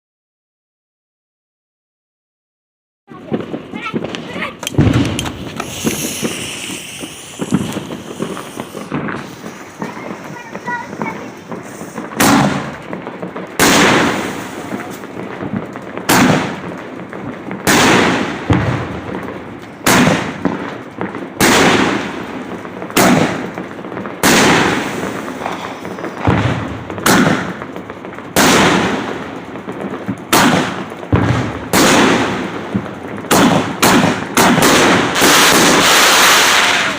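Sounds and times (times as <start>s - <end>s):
firework reports with crackling: 3.1s - 36.9s.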